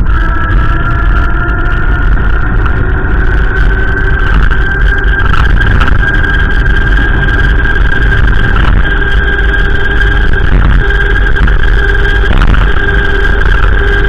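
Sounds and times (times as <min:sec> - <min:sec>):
steady high whine: 0:00.0 - 0:14.0
wind buffeting microphone: 0:00.0 - 0:14.0.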